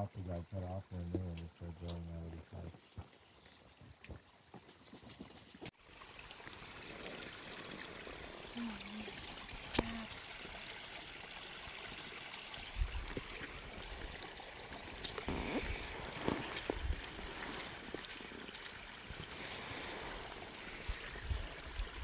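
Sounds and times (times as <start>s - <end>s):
creek trickling over rocks: 0.0s - 22.0s.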